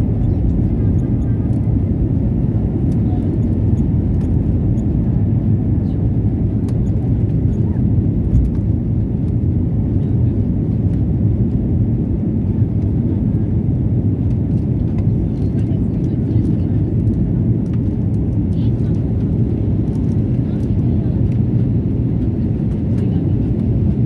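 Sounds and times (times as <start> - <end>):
airplane engines droning: 0.0 - 24.0.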